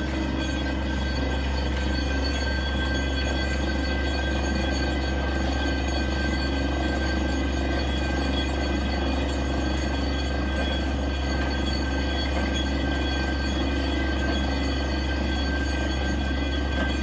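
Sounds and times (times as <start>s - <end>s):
drilling rig engine drone: 0.0s - 17.0s
steady high whine: 0.0s - 17.0s.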